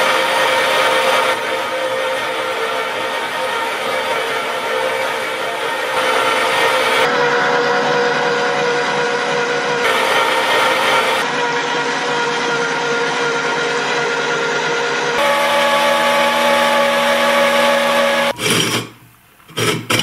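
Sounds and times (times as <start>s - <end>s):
meat grinder motor whining: 0.0s - 18.4s.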